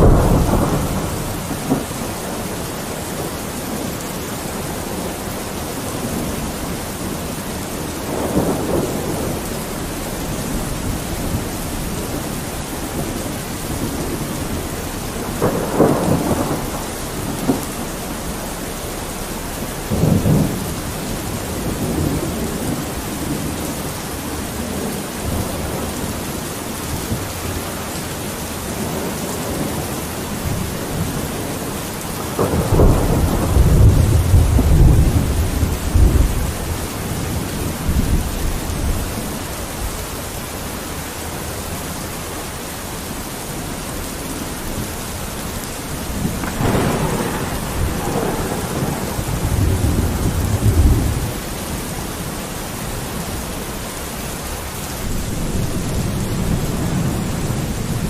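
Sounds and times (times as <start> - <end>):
thunder rolling: 0.0 - 3.9, 4.5 - 26.2, 28.8 - 39.9, 44.4 - 52.3, 55.0 - 58.0
steady rain falling: 0.0 - 58.0.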